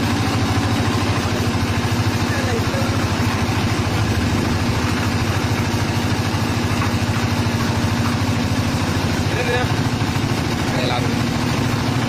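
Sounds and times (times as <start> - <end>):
concrete mixer diesel engine chugging: 0.0 - 12.0.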